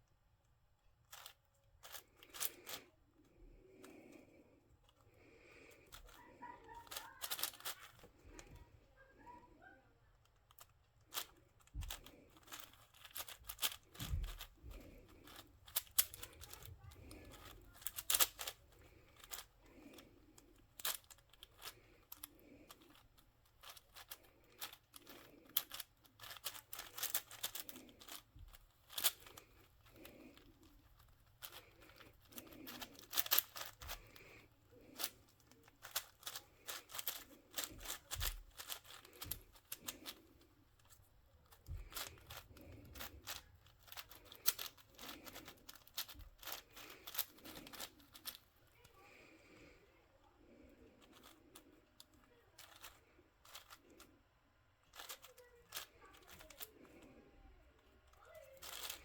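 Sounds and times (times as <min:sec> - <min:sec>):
puzzle cube clicking: 0:01.1 - 0:02.9, 0:04.8 - 0:08.6, 0:10.2 - 0:48.5, 0:51.0 - 0:54.1, 0:54.9 - 0:57.0, 0:58.6 - 0:59.0.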